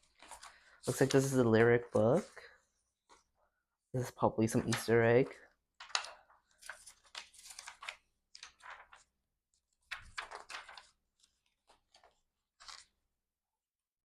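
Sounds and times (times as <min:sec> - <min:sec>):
paper and card rustling: 0:00.0 - 0:03.3, 0:04.4 - 0:05.2, 0:05.8 - 0:13.0.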